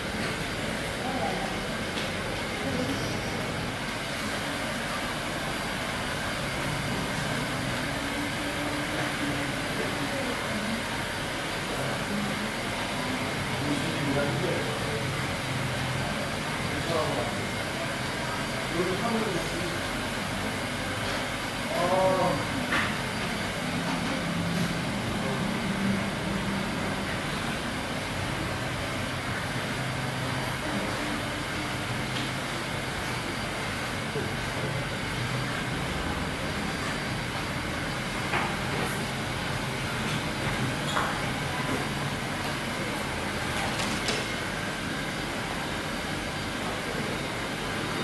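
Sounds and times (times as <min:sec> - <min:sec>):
room hum and hiss: 0:00.0 - 0:48.0.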